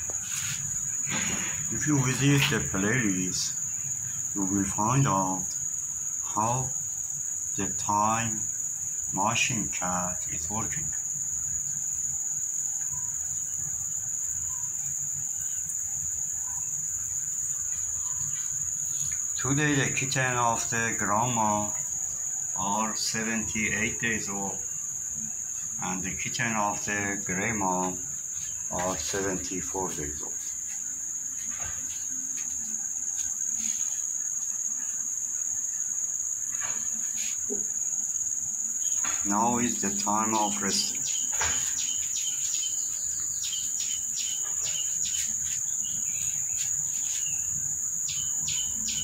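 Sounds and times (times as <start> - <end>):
high-pitched insect trill: 0.0 - 49.0.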